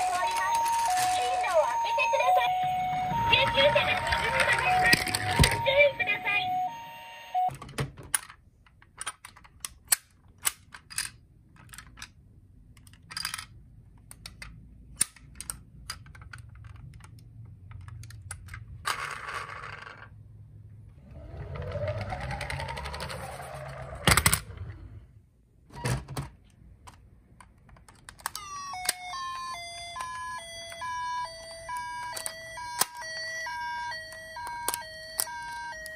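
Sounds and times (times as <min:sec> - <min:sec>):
toy cars clicking and knocking: 0:00.0 - 0:02.4, 0:03.3 - 0:05.8, 0:08.0 - 0:20.2, 0:21.1 - 0:24.6, 0:26.8 - 0:35.9.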